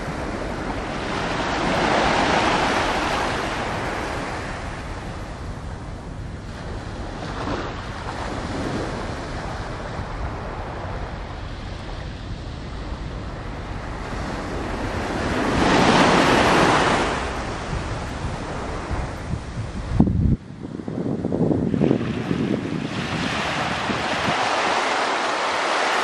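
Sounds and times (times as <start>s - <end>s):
small waves washing on shore: 0.0s - 20.0s, 21.7s - 26.0s
wind rumbling on microphone: 0.0s - 26.0s.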